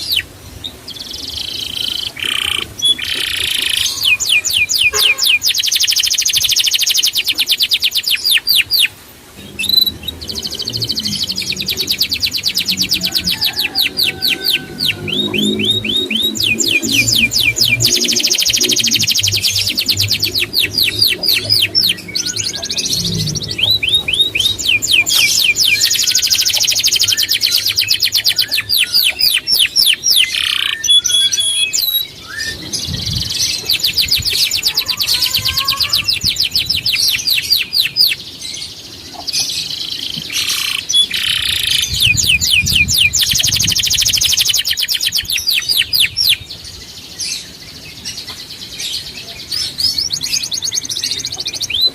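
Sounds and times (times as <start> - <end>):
songbird trilling: 0.0 - 47.6.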